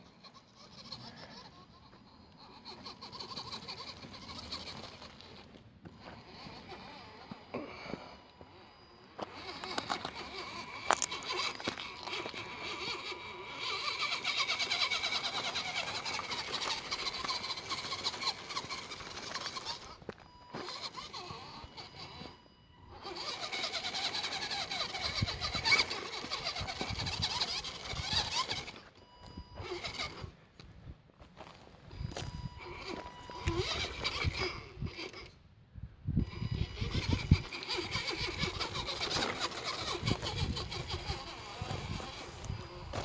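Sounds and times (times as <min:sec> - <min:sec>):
electric motor and gears whining: 0:00.0 - 0:30.7, 0:31.3 - 0:35.4, 0:36.0 - 0:43.0.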